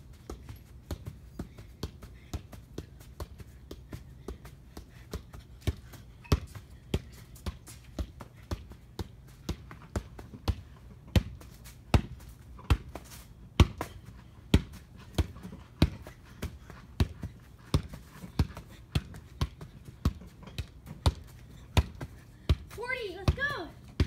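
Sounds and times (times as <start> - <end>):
foot kicking soccer ball: 0.0 - 24.0.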